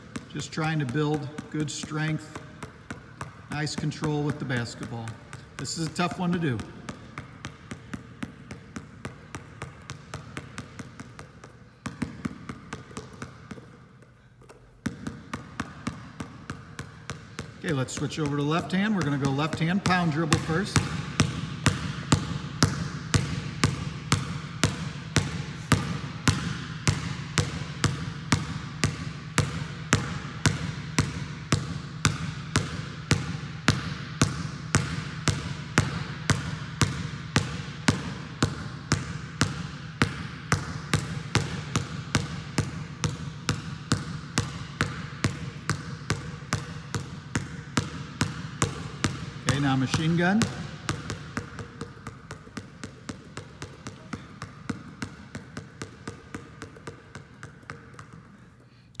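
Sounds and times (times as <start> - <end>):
basketball bouncing on gym floor: 0.0 - 59.0.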